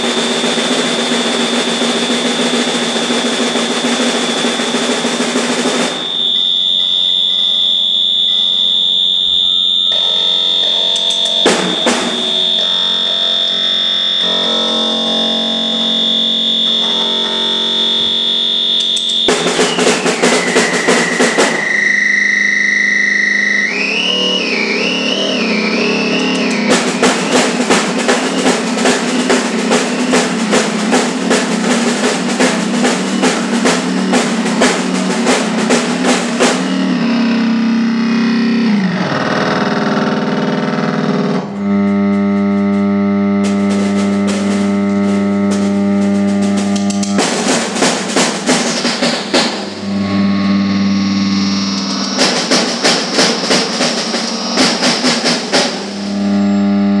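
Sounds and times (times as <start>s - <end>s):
drum kit fast rolls: 0.0s - 6.4s, 9.9s - 12.8s, 14.2s - 57.0s
high whistling tone: 0.0s - 38.9s, 48.5s - 56.7s.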